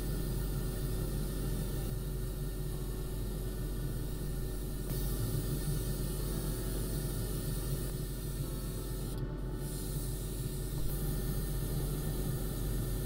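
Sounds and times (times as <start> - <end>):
airbrush spraying hiss: 0.0 - 13.0
steady low hum: 0.0 - 13.0.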